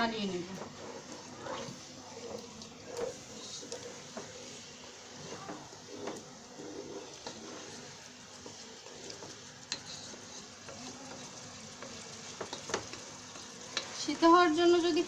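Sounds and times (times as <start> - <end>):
meat sizzling in oil: 0.0 - 15.0
wooden spatula stirring: 0.0 - 15.0.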